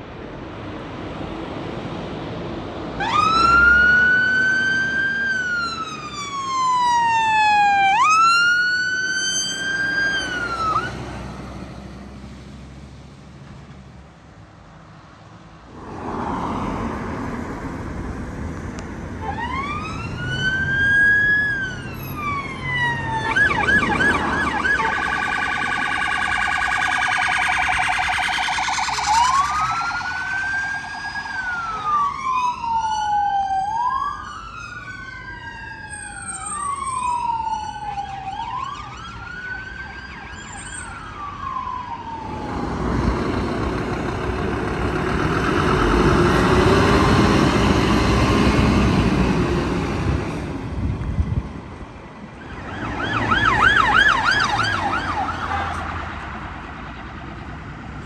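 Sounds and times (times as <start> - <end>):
emergency vehicle sirens: 0.0 - 13.1, 15.6 - 58.0
vehicle engine and road noise: 0.0 - 58.0.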